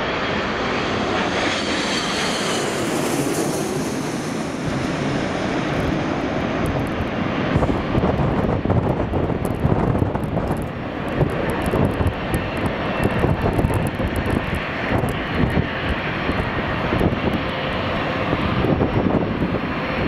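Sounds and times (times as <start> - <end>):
jet engines at approach power: 0.0 - 20.0.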